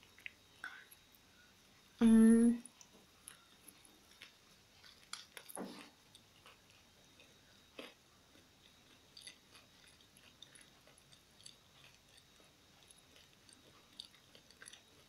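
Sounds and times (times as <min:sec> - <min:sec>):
chewing and mouth sounds: 0:02.6 - 0:15.0.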